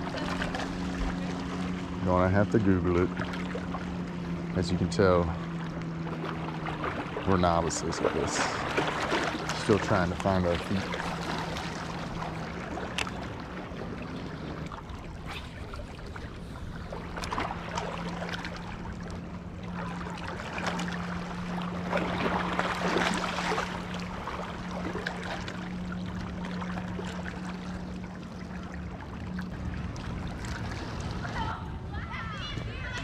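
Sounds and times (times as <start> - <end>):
motorboat hum: 0.0 - 33.0
waves lapping against rocky shore: 0.0 - 33.0.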